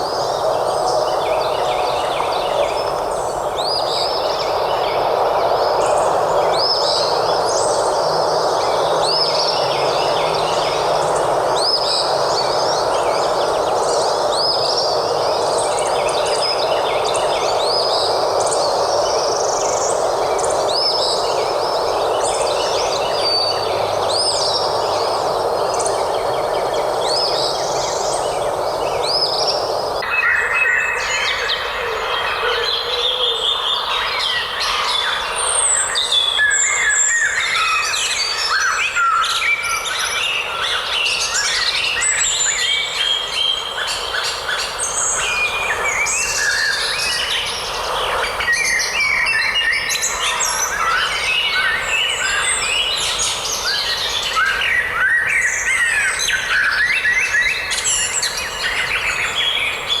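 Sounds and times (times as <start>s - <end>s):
steady background hiss: 0.0s - 60.0s.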